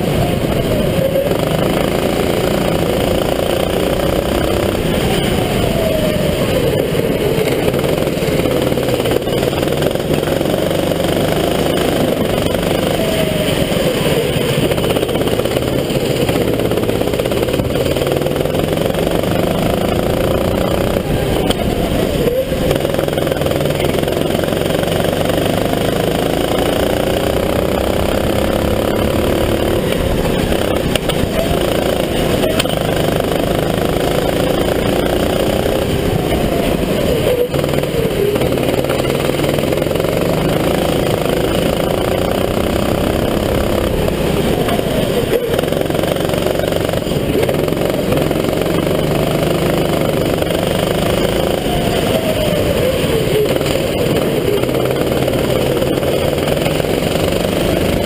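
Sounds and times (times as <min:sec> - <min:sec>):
kart engine at racing speed: 0:00.0 - 0:58.0
wind and road noise: 0:00.0 - 0:58.0.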